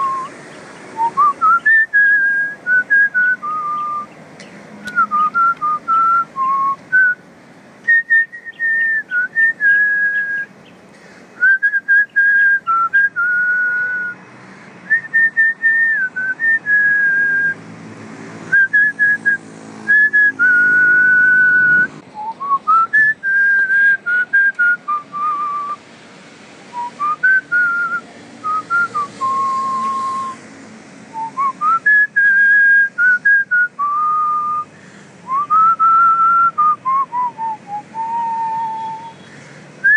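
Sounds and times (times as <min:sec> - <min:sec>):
whistled tune: 0:00.0 - 0:00.3, 0:01.0 - 0:04.1, 0:04.9 - 0:07.2, 0:07.9 - 0:10.5, 0:11.4 - 0:14.2, 0:14.9 - 0:17.6, 0:18.5 - 0:25.8, 0:26.7 - 0:30.4, 0:31.2 - 0:34.7, 0:35.3 - 0:39.2.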